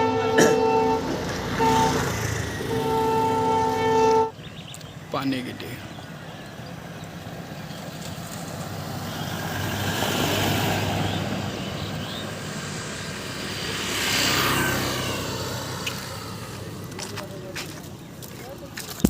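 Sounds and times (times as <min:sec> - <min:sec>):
traffic engine hum: 0:00.0 - 0:19.0
vehicles passing by: 0:00.0 - 0:19.0.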